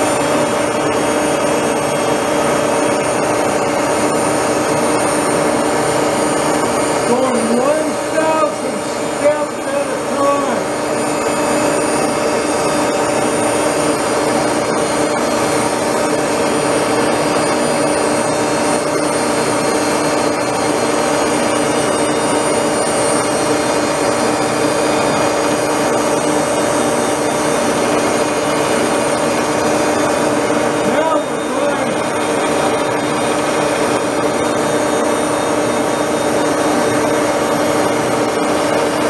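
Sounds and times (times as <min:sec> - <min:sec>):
grinder motor hum: 0:00.0 - 0:39.0.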